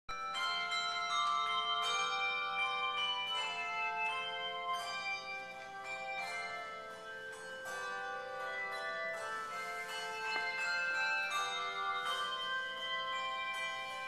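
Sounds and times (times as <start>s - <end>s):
handbell choir playing hymn: 0.1s - 14.0s.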